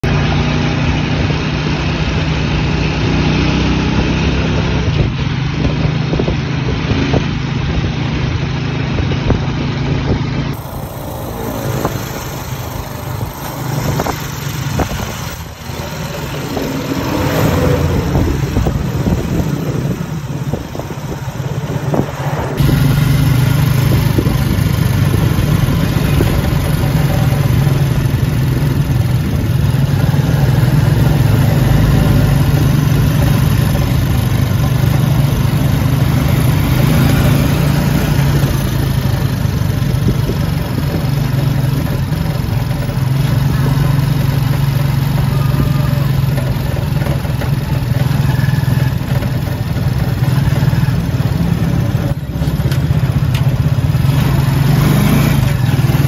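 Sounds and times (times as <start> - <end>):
traffic noise: 0.0 - 56.0
vehicle engine running: 0.0 - 56.0.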